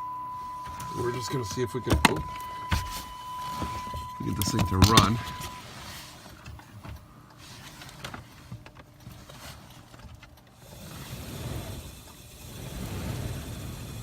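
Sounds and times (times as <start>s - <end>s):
blower motor humming: 0.0s - 7.9s, 10.6s - 14.0s.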